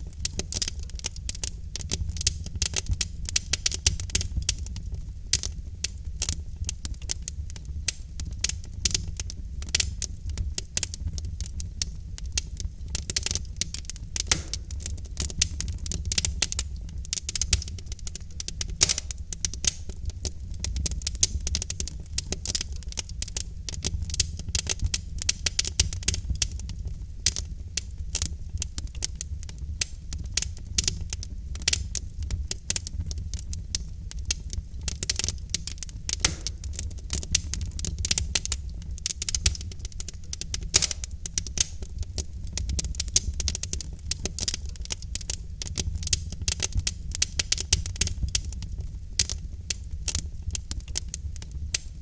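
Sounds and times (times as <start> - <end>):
low rumble of burning logs: 0.0 - 52.0
wood fire crackling and popping: 0.0 - 52.0.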